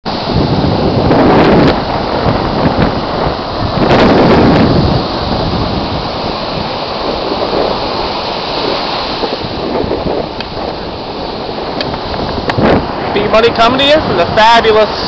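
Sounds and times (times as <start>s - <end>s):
ocean surf rushing: 0.1s - 15.0s
wind buffeting microphone: 0.1s - 15.0s.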